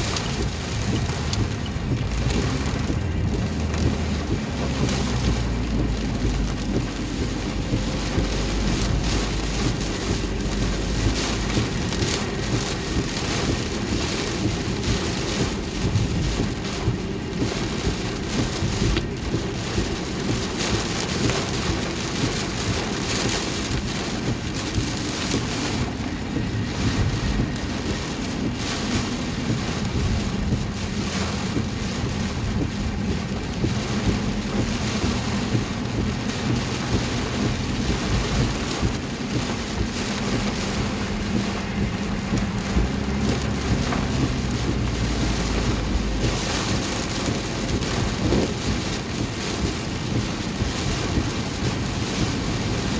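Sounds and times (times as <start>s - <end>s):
heavy rain on car roof: 0.0s - 52.9s
thunder rumbling: 0.0s - 52.9s
windshield wipers: 0.0s - 52.9s.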